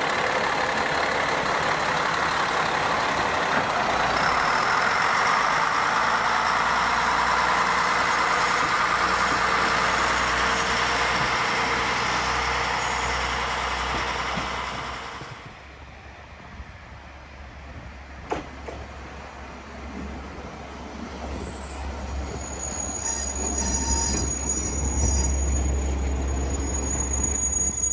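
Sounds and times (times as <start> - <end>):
diesel railcar engine running: 0.0 - 27.9.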